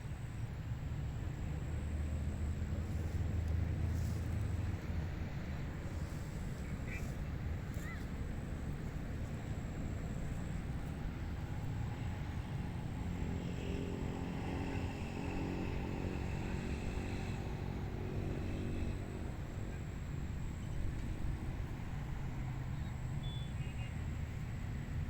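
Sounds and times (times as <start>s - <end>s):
distant engine running: 0.0s - 25.0s.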